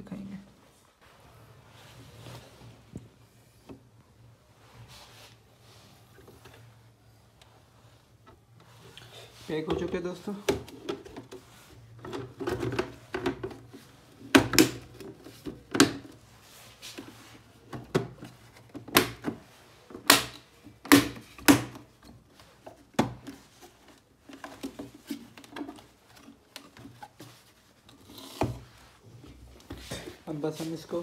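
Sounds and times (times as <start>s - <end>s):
rubbing and shuffling: 0.6s - 14.3s, 14.9s - 20.8s, 21.8s - 31.0s.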